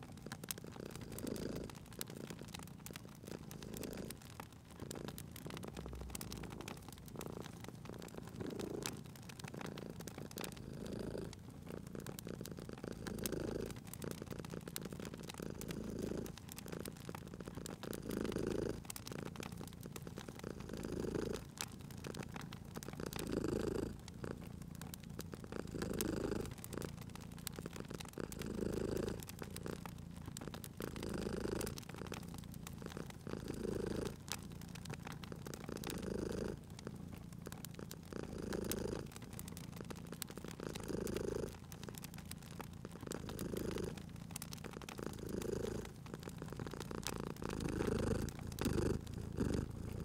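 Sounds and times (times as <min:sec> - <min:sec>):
cat purring: 0:00.0 - 0:50.0
wood fire crackling: 0:00.0 - 0:50.0.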